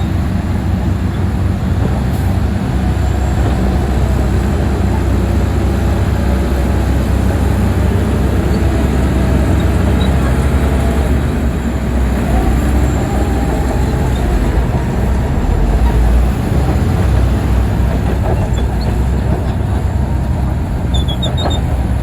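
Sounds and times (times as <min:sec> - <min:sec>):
heavy diesel engine rumbling: 0:00.0 - 0:22.0.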